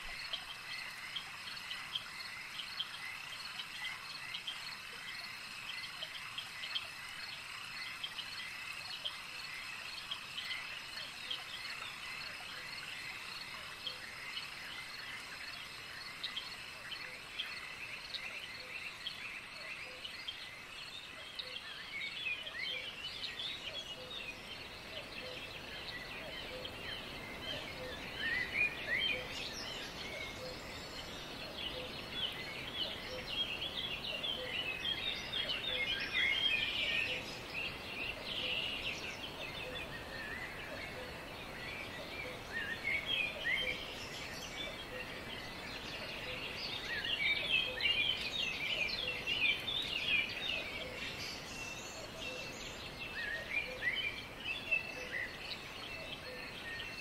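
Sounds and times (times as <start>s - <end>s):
small birds chirping: 0.0s - 57.0s
steady hiss: 0.0s - 57.0s.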